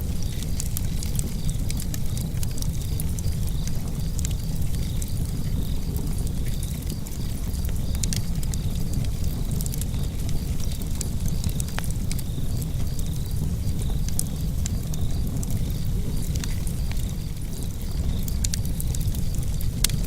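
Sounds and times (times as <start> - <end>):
burning logs crackling and popping: 0.0 - 20.0
fire rumbling: 0.0 - 20.0.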